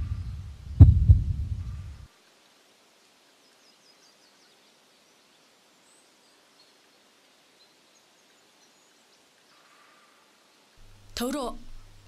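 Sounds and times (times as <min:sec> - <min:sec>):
faint forest ambience: 0:00.0 - 0:12.0.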